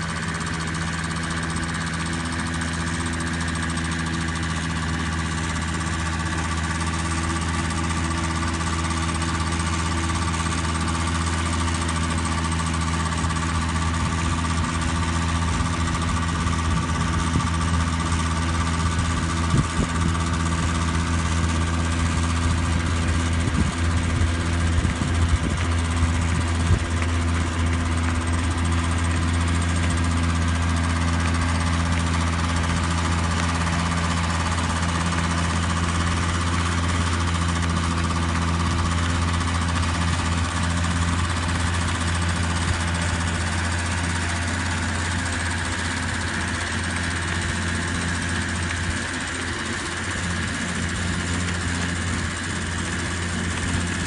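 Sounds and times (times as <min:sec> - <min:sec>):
small engine humming: 0:00.0 - 0:54.0.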